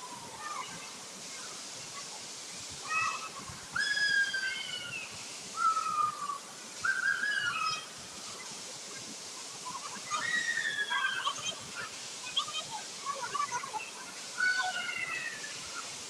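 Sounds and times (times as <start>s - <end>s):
waterfall hiss: 0.0s - 16.0s.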